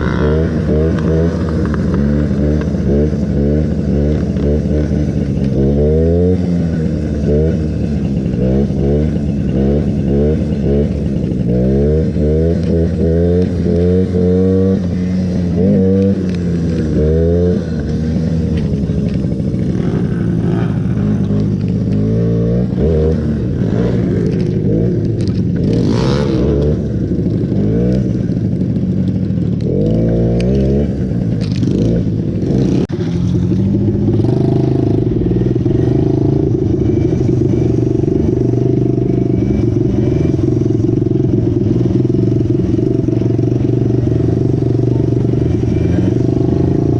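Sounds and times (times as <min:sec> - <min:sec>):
mini bike engine revving: 0:00.0 - 0:46.9.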